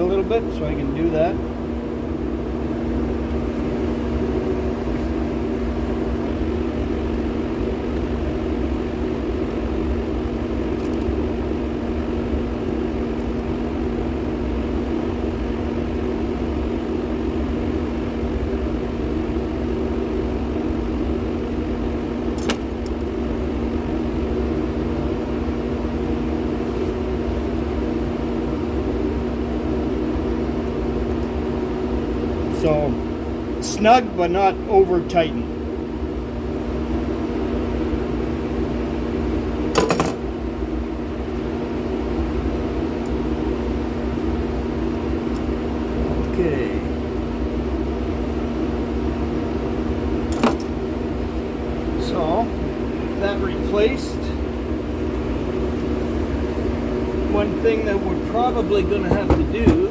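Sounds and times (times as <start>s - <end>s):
mechanical drone with low hum: 0.0s - 59.9s.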